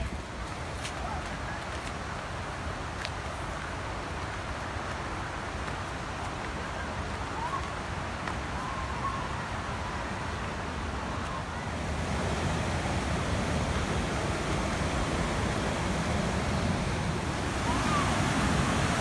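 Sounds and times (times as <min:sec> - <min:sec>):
fast river water rushing: 0:00.0 - 0:19.0.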